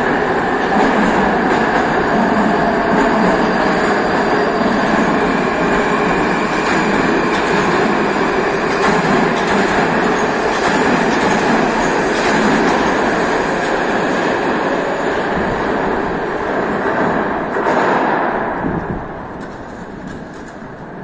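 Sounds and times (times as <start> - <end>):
metro train rumbling past: 0.0 - 21.0.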